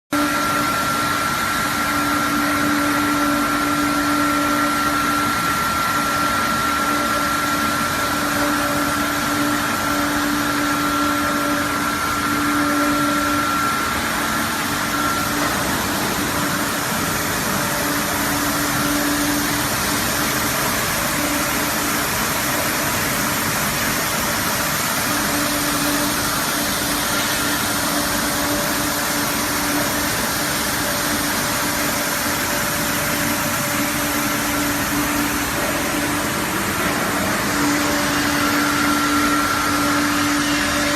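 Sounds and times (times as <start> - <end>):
high whine: 0.1 - 40.9
motor hum: 0.2 - 40.9
washing machine hiss: 0.2 - 40.9.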